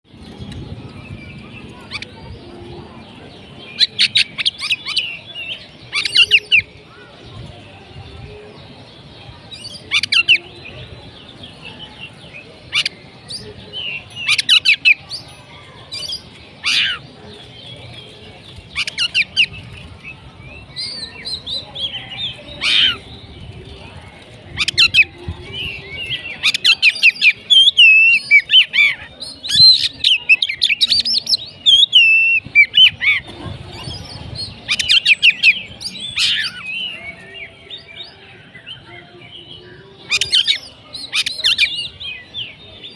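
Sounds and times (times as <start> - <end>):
bird singing varied song: 0.0 - 42.9.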